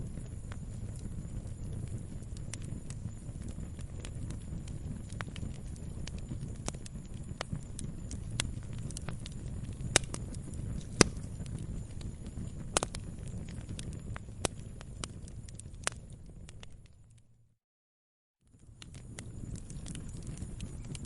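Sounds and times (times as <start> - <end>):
log fire crackling and popping: 0.0 - 17.2, 18.5 - 21.0.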